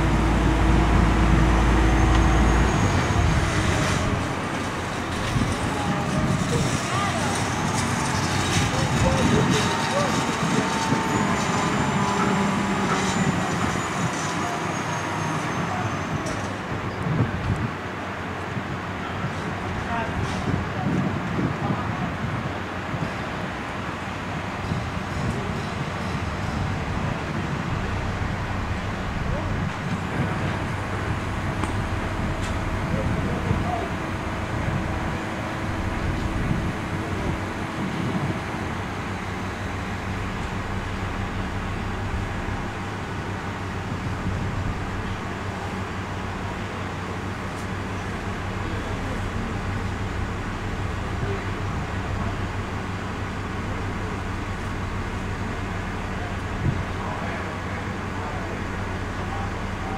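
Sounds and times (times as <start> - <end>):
heavy machinery engine drone: 0.0 - 59.9.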